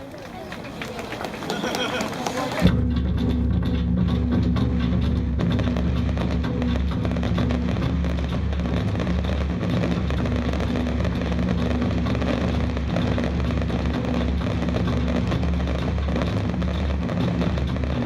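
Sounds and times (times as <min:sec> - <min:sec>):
fireworks crackling: 0:00.0 - 0:02.7, 0:05.8 - 0:18.0.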